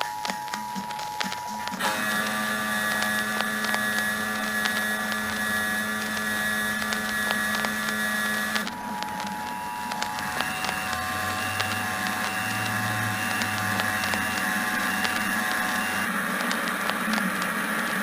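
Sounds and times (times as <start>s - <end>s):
crackling clicks: 0.0s - 18.0s.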